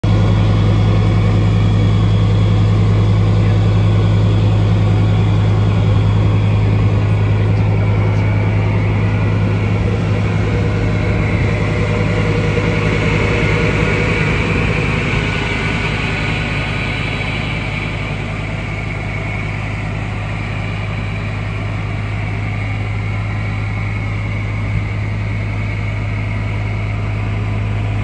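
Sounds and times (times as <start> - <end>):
diesel engine idling: 0.0 - 28.0
high engine whine: 0.0 - 28.0.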